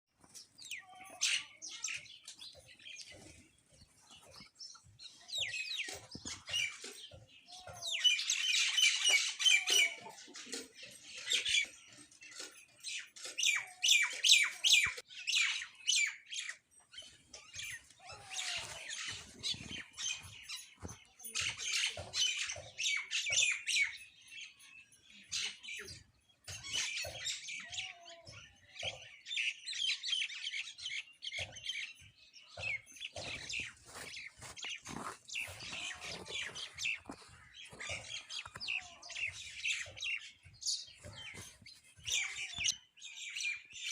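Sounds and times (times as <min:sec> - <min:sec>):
small birds chirping and squawking: 0:00.1 - 0:43.9.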